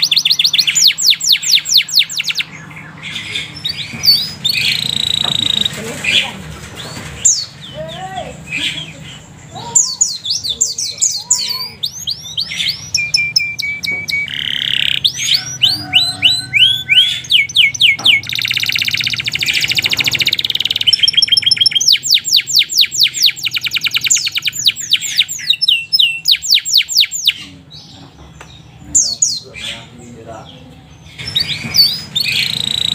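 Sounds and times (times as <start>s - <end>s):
canary singing: 0.0s - 32.9s.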